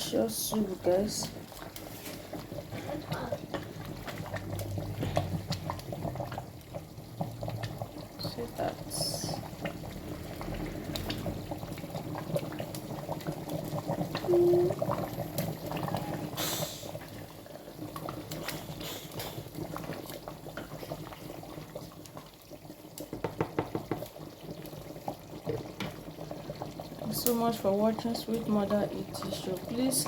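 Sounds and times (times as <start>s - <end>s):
pot of liquid boiling: 0.0s - 30.0s.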